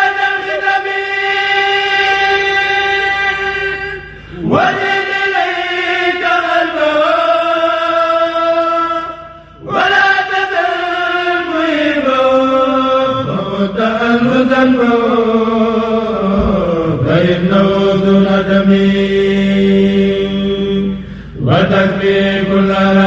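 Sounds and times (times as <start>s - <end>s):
group chanting in unison: 0.0s - 23.0s.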